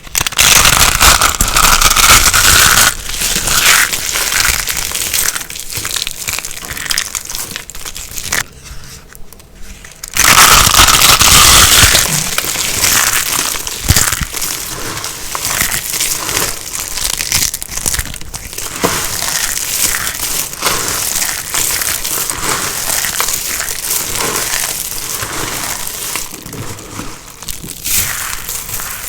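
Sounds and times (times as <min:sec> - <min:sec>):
dry soap crunching: 0:00.0 - 0:29.0.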